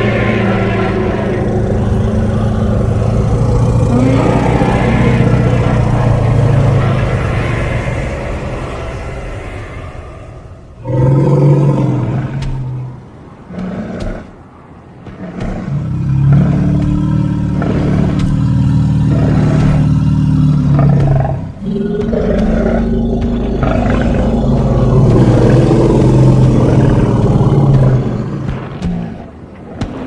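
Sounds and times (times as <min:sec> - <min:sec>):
low creature roars: 0:00.0 - 0:29.3.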